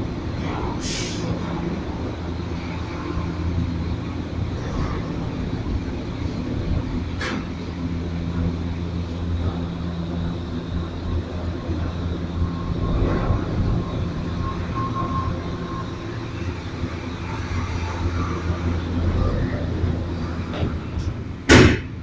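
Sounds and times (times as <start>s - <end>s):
cable car hum and rumble: 0.0s - 22.0s.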